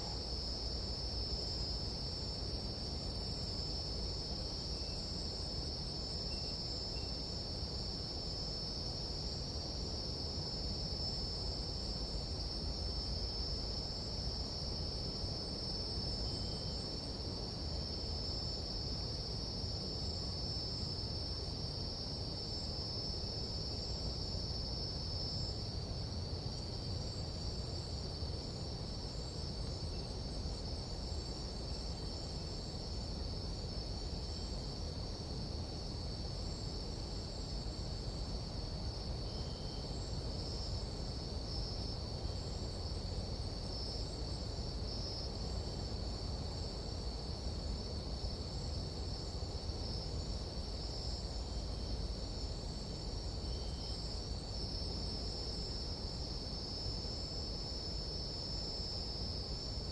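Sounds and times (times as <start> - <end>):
faint pulsing insect trill: 0.0 - 59.9
insects trilling: 0.0 - 59.9
low steady noise: 0.0 - 59.9.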